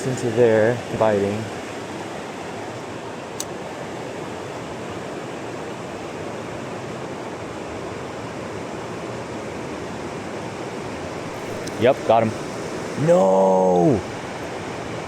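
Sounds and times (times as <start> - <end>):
river rapids rushing: 1.5 - 15.0.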